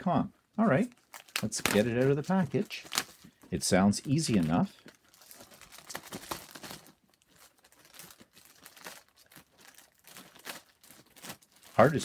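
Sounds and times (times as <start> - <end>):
plastic packaging crinkling: 0.7 - 12.0.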